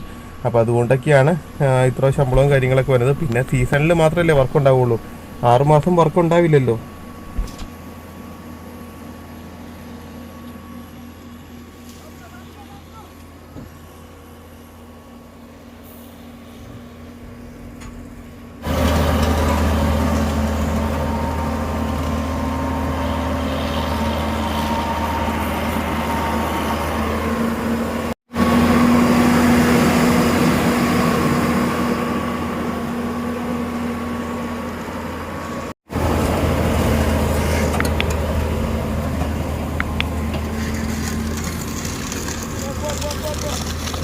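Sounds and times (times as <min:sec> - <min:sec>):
paving machine engine droning: 0:00.0 - 0:44.0.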